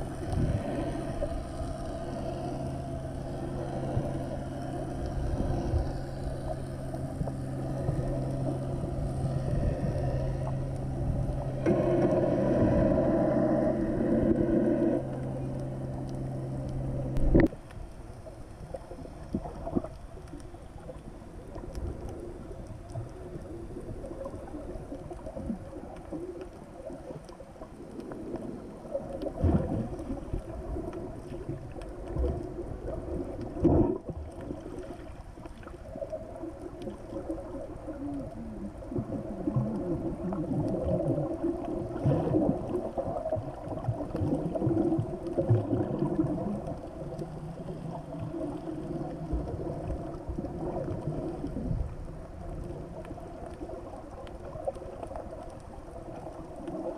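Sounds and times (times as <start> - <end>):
boat engine hum underwater: 0.0 - 56.9
underwater bubbling: 0.0 - 56.9.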